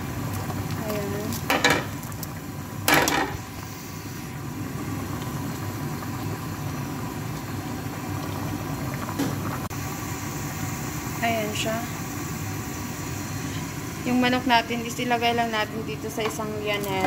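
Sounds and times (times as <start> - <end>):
broth boiling in a pot: 0.0 - 17.0.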